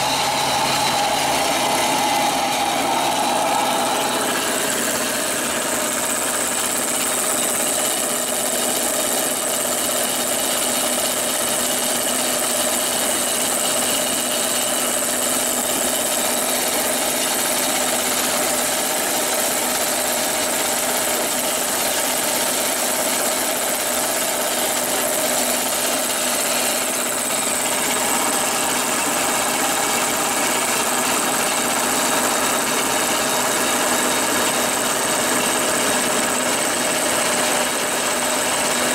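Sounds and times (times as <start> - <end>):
water pump droning: 0.0 - 38.9.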